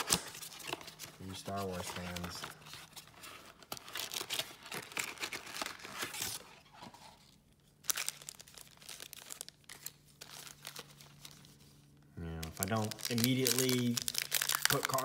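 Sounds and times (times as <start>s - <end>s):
foil packs crinkling: 0.0s - 6.4s, 7.8s - 11.6s, 12.4s - 15.0s.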